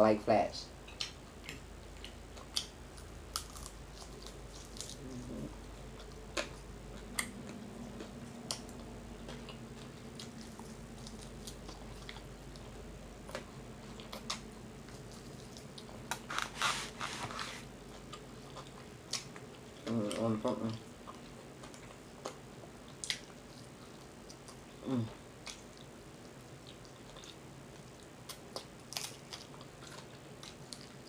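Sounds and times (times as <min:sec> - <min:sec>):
chewing and lip-smacking: 0:00.9 - 0:16.3, 0:17.9 - 0:20.3, 0:21.0 - 0:24.6, 0:25.4 - 0:31.0.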